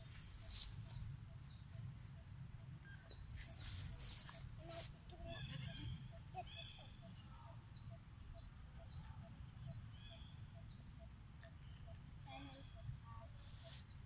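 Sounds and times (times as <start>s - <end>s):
faint bird chirps: 0.1s - 14.0s.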